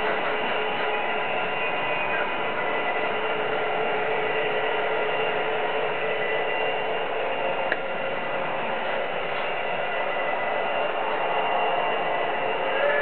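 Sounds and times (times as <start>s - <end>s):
model trains whirring: 0.0s - 13.0s
steady whining tones: 0.0s - 13.0s.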